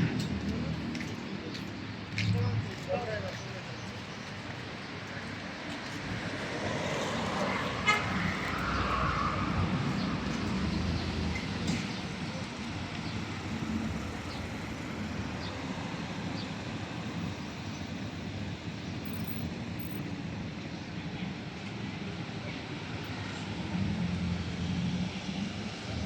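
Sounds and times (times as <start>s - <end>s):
street traffic hum: 0.0s - 26.0s.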